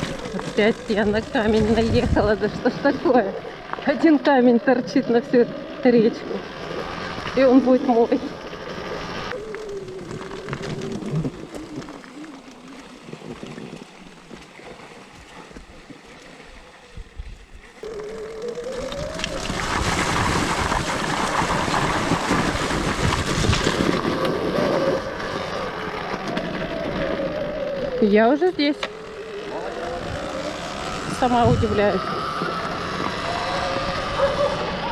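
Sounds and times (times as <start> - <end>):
electric motorcycle motor whine: 0.0 - 13.2, 16.7 - 34.9
water splashing: 0.0 - 34.9.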